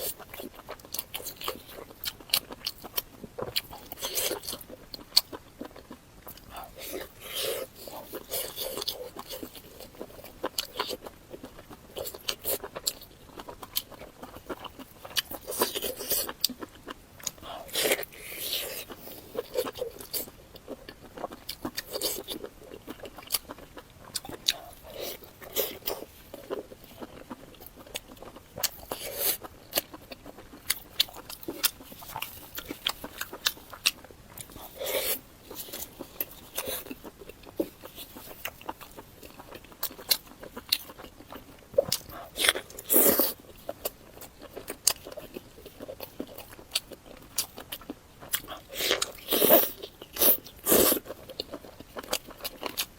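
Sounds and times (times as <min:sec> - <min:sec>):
person biting and chewing: 0:00.0 - 0:52.9.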